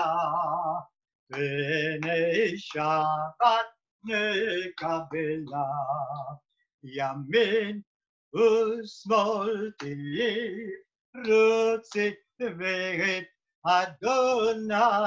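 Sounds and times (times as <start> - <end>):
man singing prayer unaccompanied: 0.0 - 15.0.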